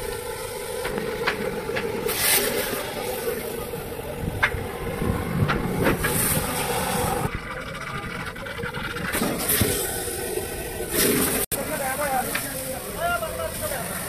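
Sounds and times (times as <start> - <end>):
hose water spraying on metal: 0.0 - 7.3, 9.1 - 14.0.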